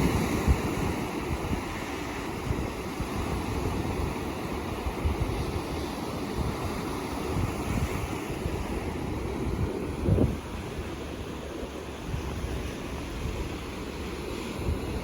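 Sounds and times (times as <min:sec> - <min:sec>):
ocean surf washing: 0:00.0 - 0:15.0
wind rumbling on microphone: 0:00.0 - 0:15.0.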